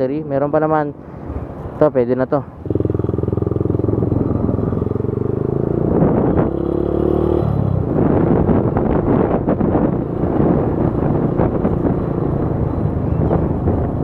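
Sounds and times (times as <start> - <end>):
wind noise on microphone: 2.6 - 14.0
motorcycle engine running: 2.7 - 14.0.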